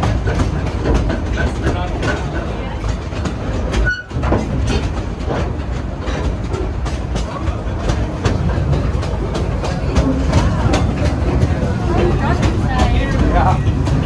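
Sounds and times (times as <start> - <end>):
train running gear rumble: 0.0 - 14.0
wheels clicking over rail joints: 0.0 - 14.0.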